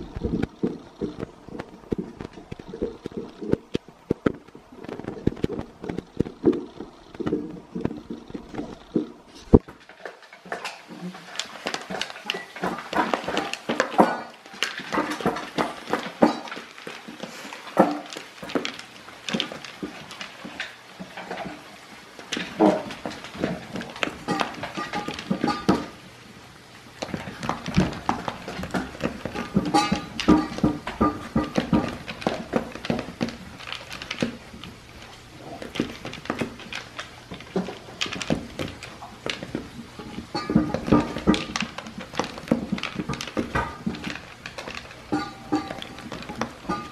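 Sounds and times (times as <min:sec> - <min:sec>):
kibble clattering in plastic bowl: 0:00.0 - 0:26.0, 0:27.0 - 0:46.9.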